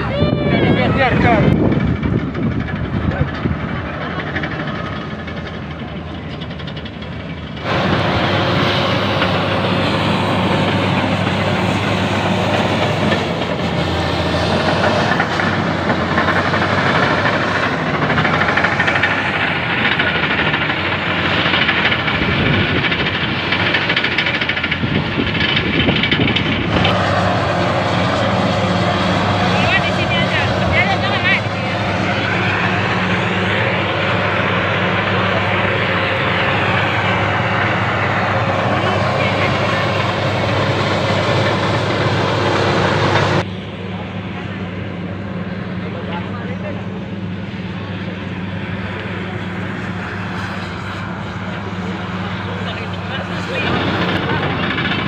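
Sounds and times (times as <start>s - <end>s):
vehicle noise with hiss: 0.0s - 55.0s.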